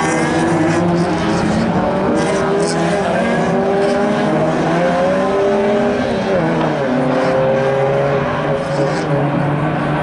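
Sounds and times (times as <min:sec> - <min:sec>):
rallycross car engines: 0:00.0 - 0:10.0.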